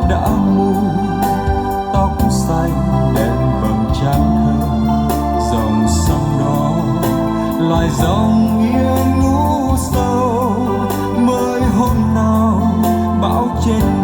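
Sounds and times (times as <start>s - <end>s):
bass: 0.0s - 14.0s
instrumental ballad on stereo: 0.0s - 14.0s
keyboard chords: 0.0s - 14.0s.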